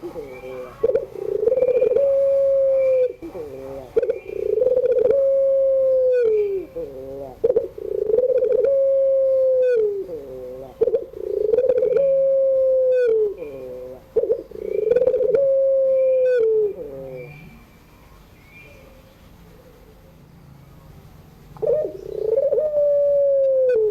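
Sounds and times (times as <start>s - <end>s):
dove cooing: 0.0s - 17.7s, 21.6s - 23.9s.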